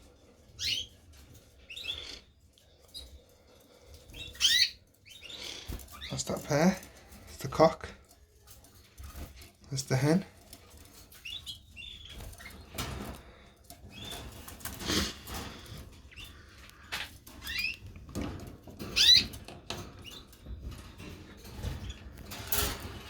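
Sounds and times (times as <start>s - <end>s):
canaries chirping: 0.0s - 23.0s
canaries fluttering wings: 0.1s - 23.0s.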